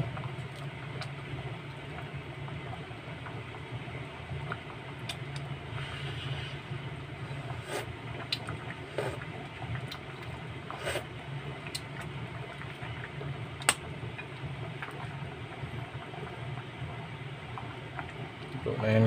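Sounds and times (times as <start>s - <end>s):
stew simmering: 0.0s - 19.0s.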